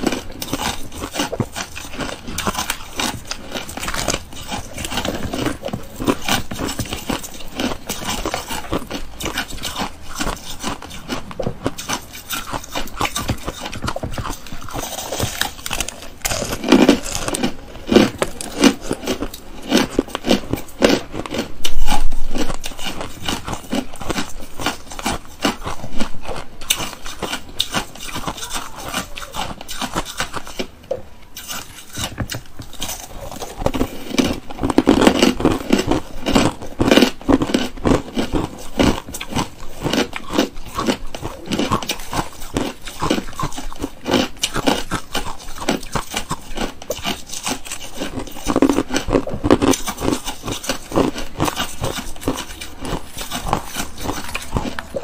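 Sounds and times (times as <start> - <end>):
chewing crunchy ice: 0.0 - 55.0.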